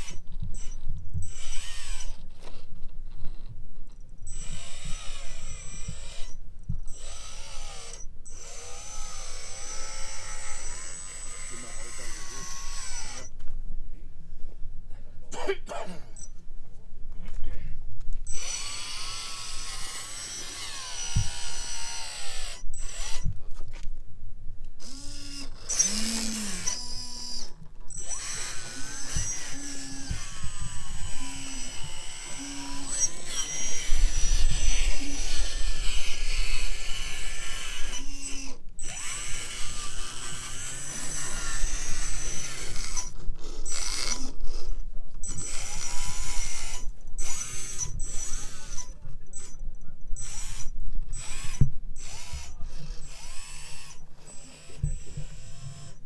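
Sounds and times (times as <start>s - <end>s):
electric motors whining: 0.0s - 2.6s, 4.2s - 13.4s, 18.2s - 23.3s, 24.8s - 49.6s, 50.2s - 56.0s.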